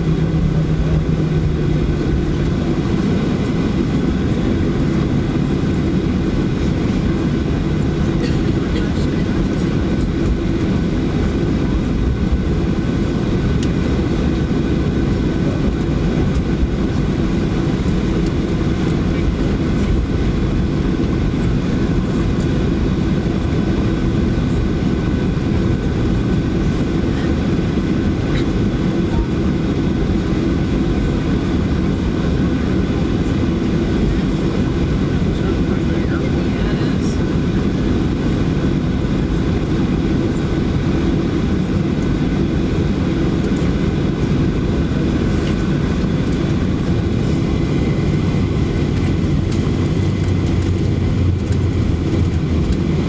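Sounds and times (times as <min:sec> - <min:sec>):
aircraft cabin rumble: 0:00.0 - 0:53.0.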